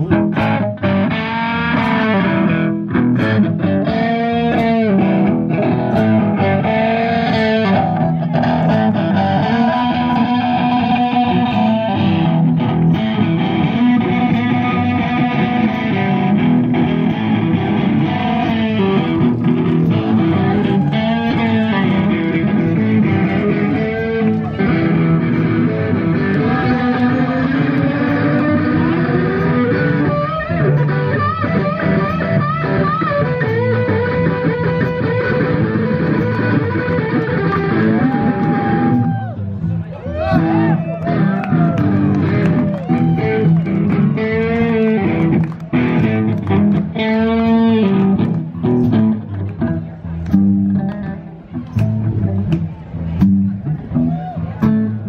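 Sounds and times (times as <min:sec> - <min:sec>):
bass guitar: 0:00.0 - 0:55.0
electric blues guitar solo: 0:00.0 - 0:55.0.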